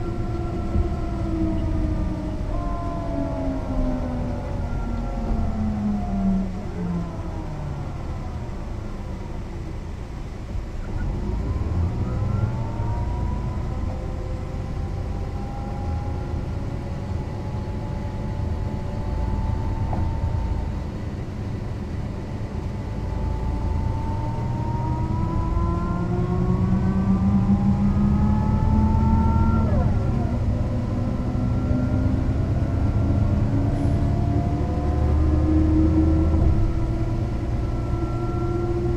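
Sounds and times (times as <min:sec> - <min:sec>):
bus diesel engine running: 0:00.0 - 0:38.9
drivetrain whine: 0:00.0 - 0:38.9.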